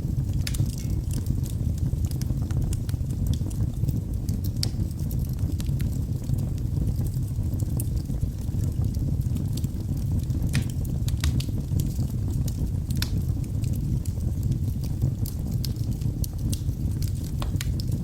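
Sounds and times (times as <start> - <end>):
low rumble of flames: 0.0 - 18.0
wood fire crackles and pops: 0.0 - 18.0
loud fire snaps: 0.1 - 18.0.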